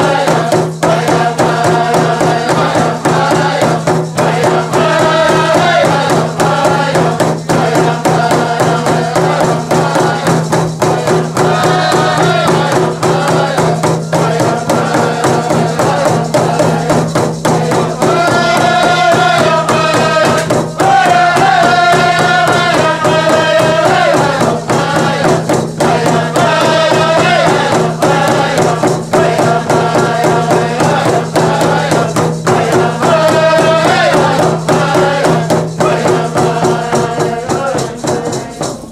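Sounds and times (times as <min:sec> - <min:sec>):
frame drums beating: 0:00.0 - 0:38.9
men singing: 0:00.0 - 0:38.9.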